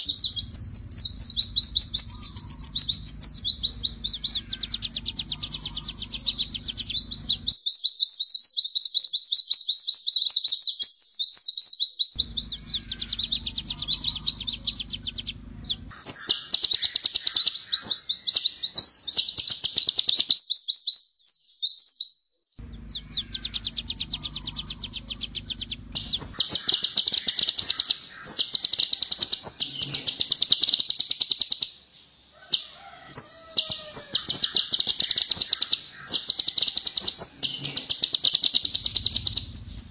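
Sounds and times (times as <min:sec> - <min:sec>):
sunbird trilling song: 0:00.0 - 0:39.9.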